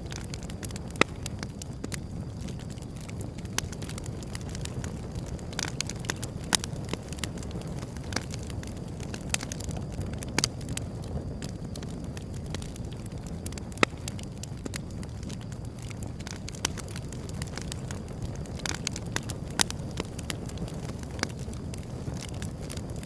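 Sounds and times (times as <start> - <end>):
low rush of fire: 0.0 - 23.0
wood fire crackling and popping: 0.0 - 23.0.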